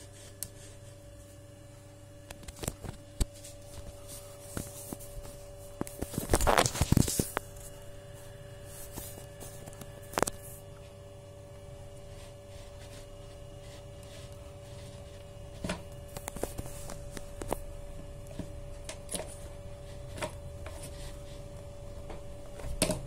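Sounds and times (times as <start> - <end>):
faint hum: 0.0 - 23.0.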